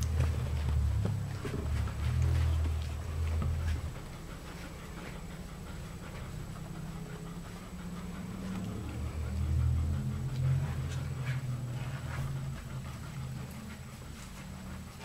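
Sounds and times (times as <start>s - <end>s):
dog panting: 0.0s - 15.0s
low rumble: 0.0s - 15.0s
puppies scrabbling and scratching: 0.0s - 15.0s.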